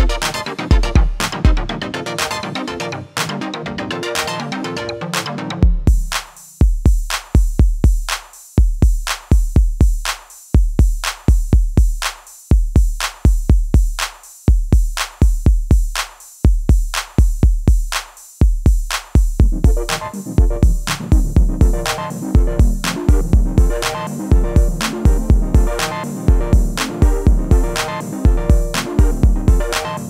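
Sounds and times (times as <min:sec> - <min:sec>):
electronic drum machine beat: 0:00.0 - 0:30.0.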